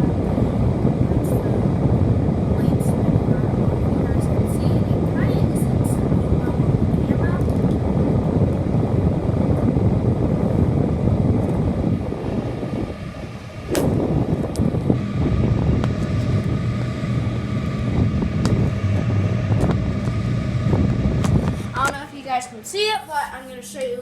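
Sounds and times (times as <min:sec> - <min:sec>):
fan air buffeting microphone: 0:00.0 - 0:24.0
fan hum: 0:00.0 - 0:24.0.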